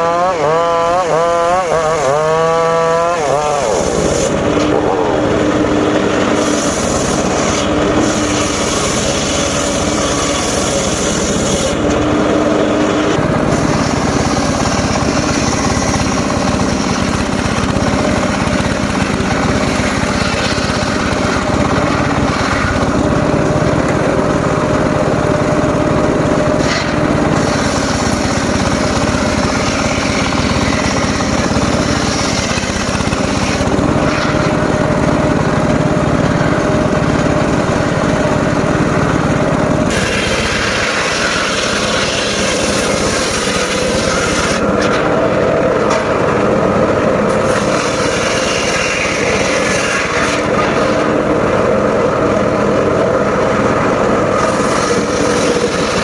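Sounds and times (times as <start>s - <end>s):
circular saw sawing wood: 0.0s - 56.0s.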